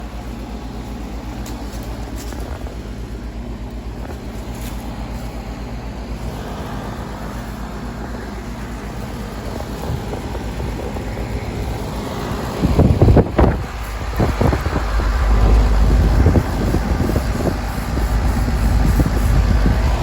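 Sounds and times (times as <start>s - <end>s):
compressor hum: 0.0s - 20.0s
fan whooshing: 0.0s - 20.0s.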